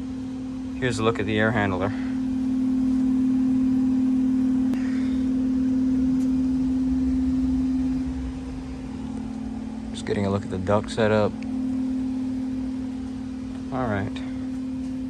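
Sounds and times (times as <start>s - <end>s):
blower airflow rush: 0.0s - 15.0s
electrical hum: 0.0s - 15.0s.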